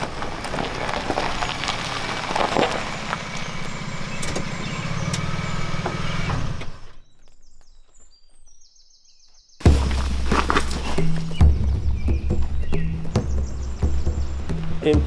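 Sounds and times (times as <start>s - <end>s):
truck engine running: 0.0s - 7.0s, 9.6s - 15.0s
gravel crunching: 0.0s - 15.0s.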